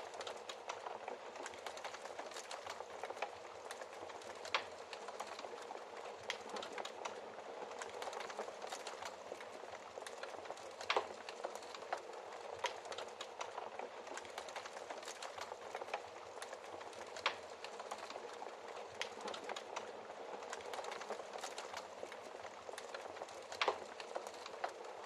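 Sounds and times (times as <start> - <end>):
fire crackling in a fireplace: 0.0 - 25.0.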